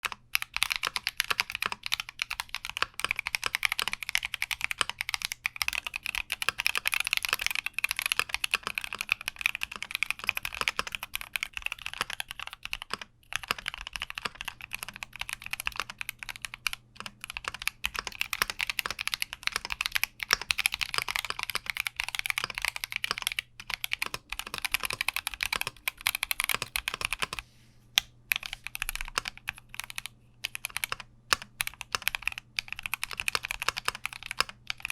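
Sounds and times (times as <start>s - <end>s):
mechanical keyboard typing: 0.0s - 27.4s, 28.0s - 34.9s.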